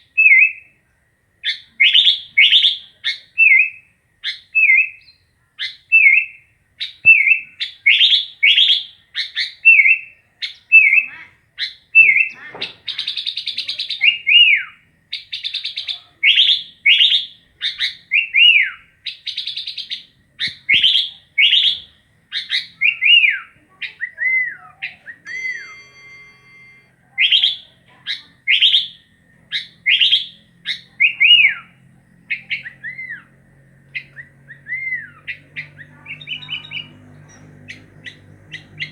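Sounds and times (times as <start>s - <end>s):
bulbul chirping and singing: 1.4s - 38.9s.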